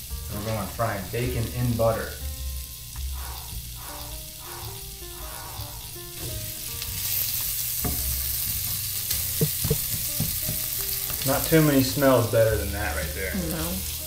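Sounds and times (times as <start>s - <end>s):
bacon sizzling in a pan: 0.0s - 14.0s.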